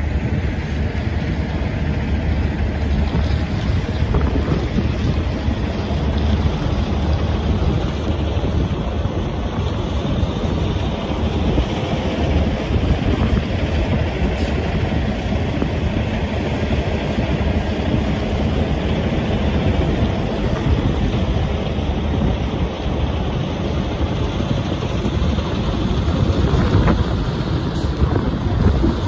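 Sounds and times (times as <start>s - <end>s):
truck driving on highway: 0.0s - 29.0s.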